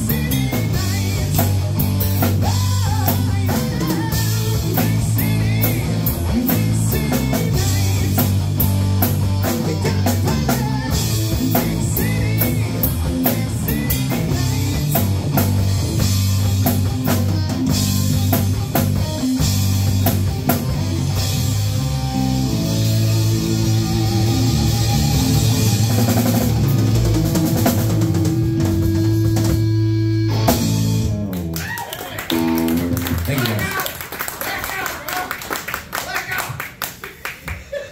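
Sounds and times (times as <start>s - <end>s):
electric guitar: 0.0s - 34.0s
bass guitar: 0.0s - 34.1s
busy drumming: 0.0s - 35.3s.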